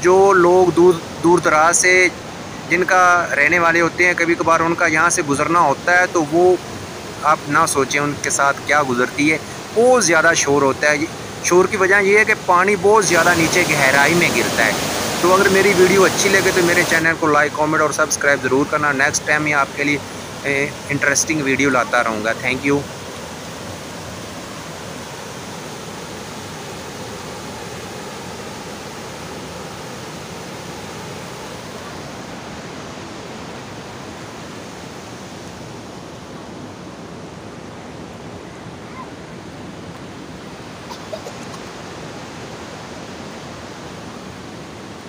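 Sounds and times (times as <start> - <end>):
water rushing and falling: 0.0 - 45.0.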